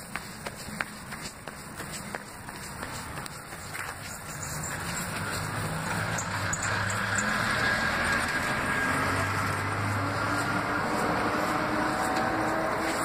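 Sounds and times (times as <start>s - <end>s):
vehicle engine running: 0.1s - 13.0s.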